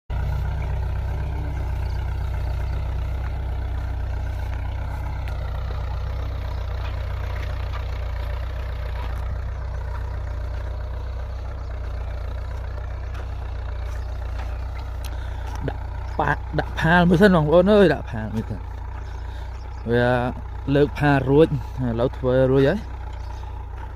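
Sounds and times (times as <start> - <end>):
tractor diesel engine running: 0.1 - 23.9.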